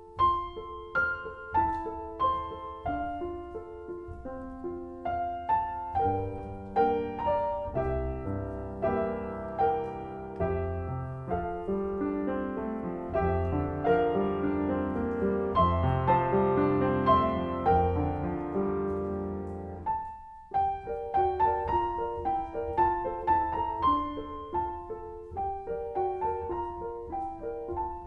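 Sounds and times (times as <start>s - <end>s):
solo piano carol: 0.0s - 28.0s.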